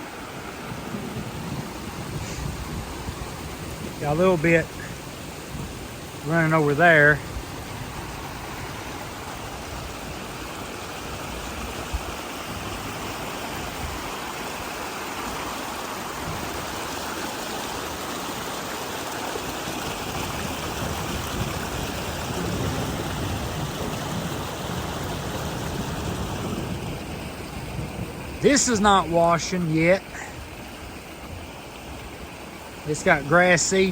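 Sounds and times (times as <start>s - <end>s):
water running in a ditch: 0.0s - 33.9s.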